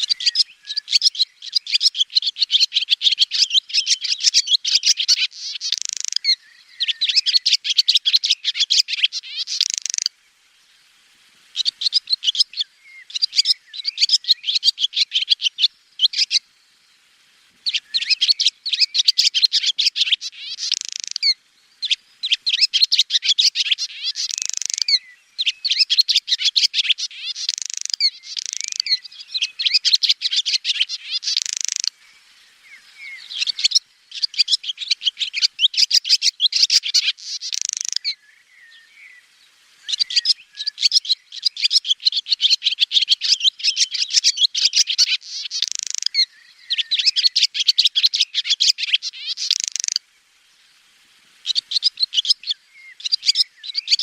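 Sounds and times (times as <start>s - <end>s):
swallow twittering: 0.0s - 10.1s, 11.6s - 16.4s, 17.6s - 39.2s, 39.8s - 50.0s, 51.4s - 54.0s.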